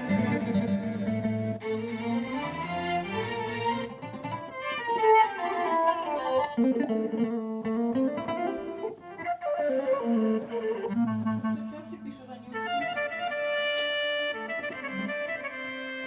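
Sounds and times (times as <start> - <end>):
keyboard plucked-string melody: 0.0 - 16.0.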